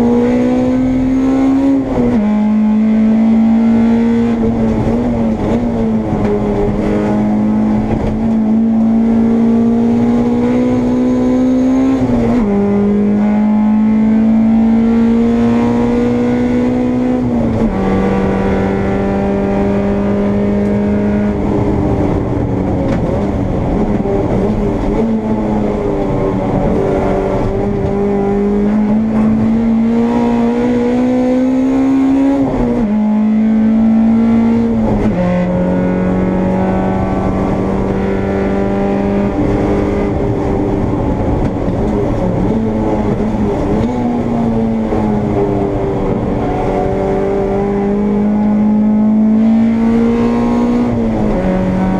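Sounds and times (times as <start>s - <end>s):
race car engine at high revs: 0.0s - 51.9s.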